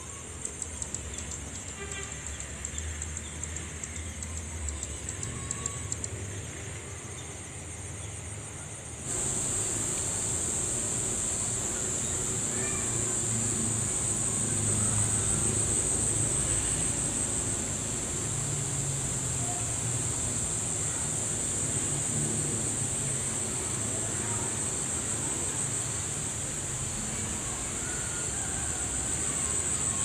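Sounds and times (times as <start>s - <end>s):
insect high buzz: 0.0s - 30.0s
insects chirping: 0.0s - 30.0s.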